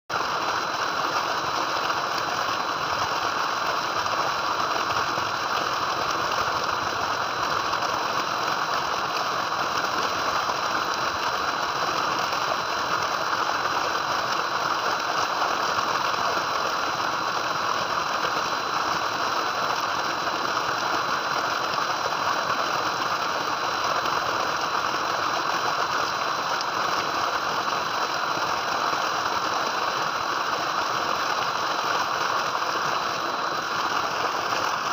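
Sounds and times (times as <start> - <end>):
water gushing into tank: 0.1 - 34.9.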